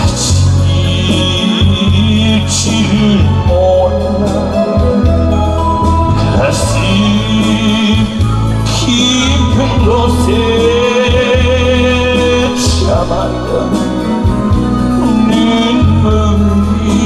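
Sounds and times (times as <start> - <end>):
amplified backing track with bass: 0.0 - 17.0
man singing: 0.0 - 17.0.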